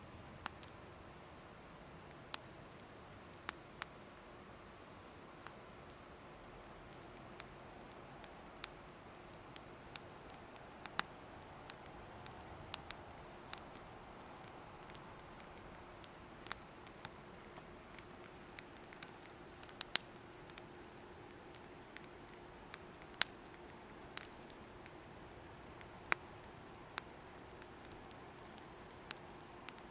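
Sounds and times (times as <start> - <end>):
faint steady hiss: 0.0 - 29.9
wood fire crackling: 0.1 - 29.9.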